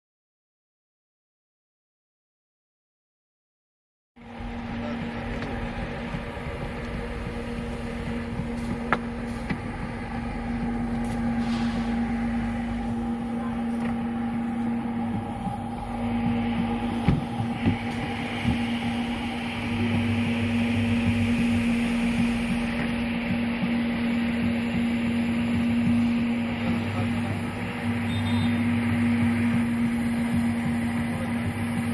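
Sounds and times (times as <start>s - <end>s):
electric motor humming: 4.2s - 31.9s.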